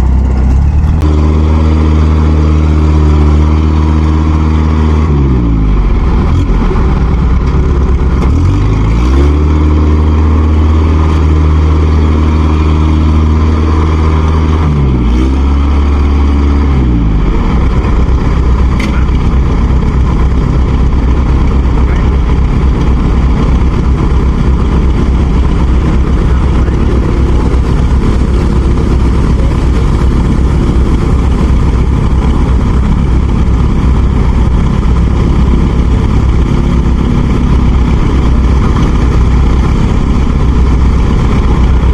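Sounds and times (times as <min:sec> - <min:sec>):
heavy machinery engine straining: 0:00.0 - 0:41.9.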